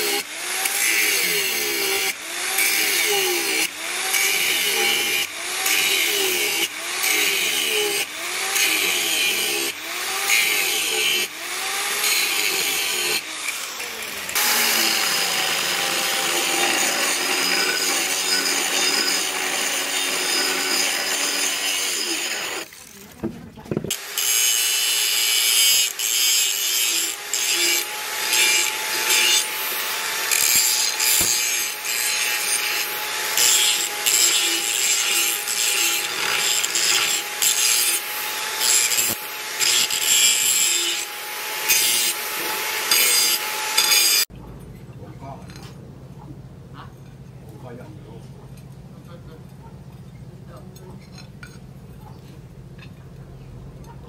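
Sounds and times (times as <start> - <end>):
angle grinder grinding steel: 0.0 - 23.2, 23.9 - 44.3.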